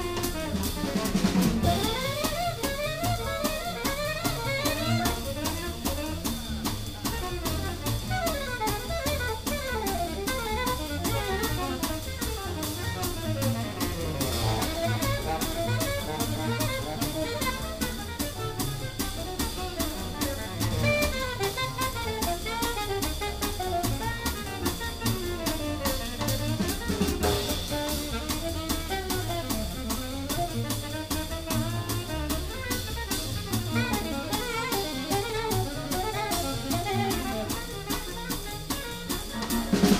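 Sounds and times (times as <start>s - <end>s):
drum kit ride cymbal: 0.0s - 39.9s
horn solo: 0.0s - 39.9s.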